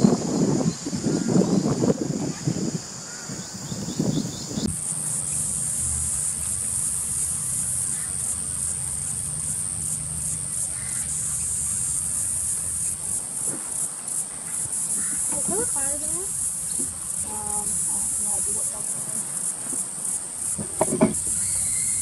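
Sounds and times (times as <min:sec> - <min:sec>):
shrill insect chorus: 0:00.0 - 0:22.0.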